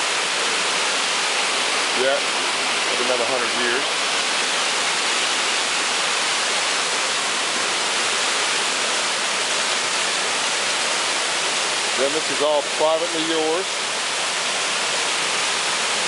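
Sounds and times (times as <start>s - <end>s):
creek water cascading over rocks: 0.0s - 16.0s.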